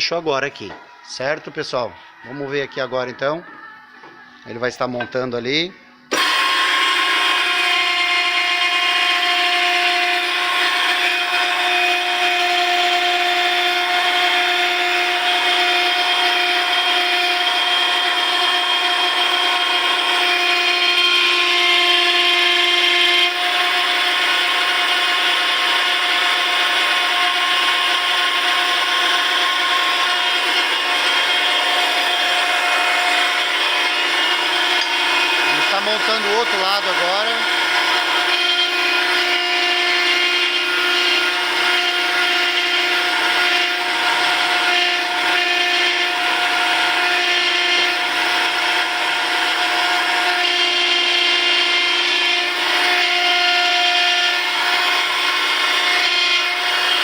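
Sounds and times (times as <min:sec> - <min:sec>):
hydraulic pump multi-tone whine: 0:05.0 - 0:57.0.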